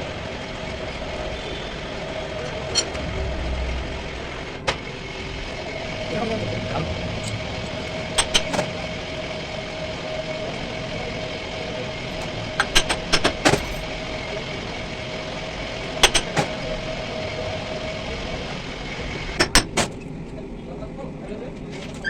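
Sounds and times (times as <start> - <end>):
machine humming: 0.0 - 20.5.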